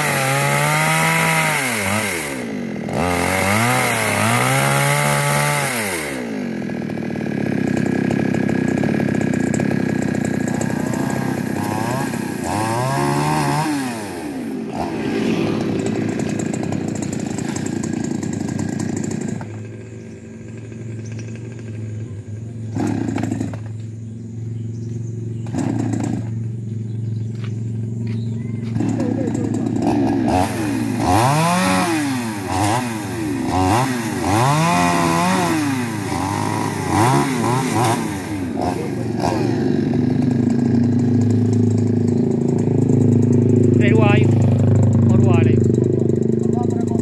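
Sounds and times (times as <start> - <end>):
chainsaw cutting wood: 0.0 - 24.0, 24.8 - 47.0.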